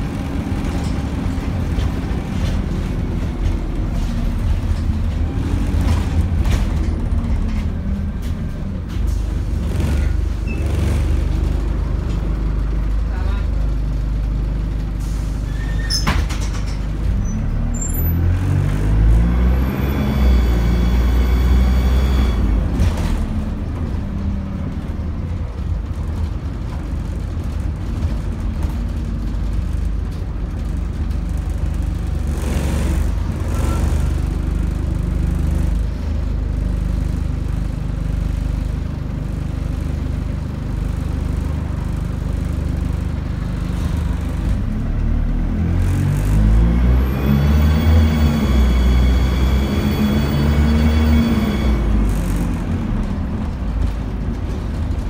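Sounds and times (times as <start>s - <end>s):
bus engine accelerating: 0.0s - 55.0s.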